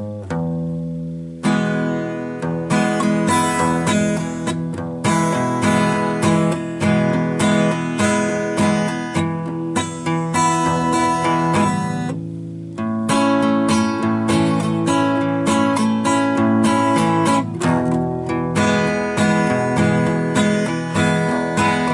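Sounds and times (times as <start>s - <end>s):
acoustic guitar strumming chords: 0.0s - 21.9s.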